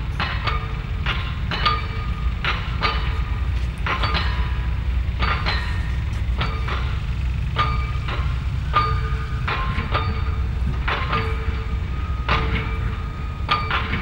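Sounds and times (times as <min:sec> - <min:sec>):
steady low rumble: 0:00.0 - 0:14.0
sharp metallic clinks: 0:00.1 - 0:14.0.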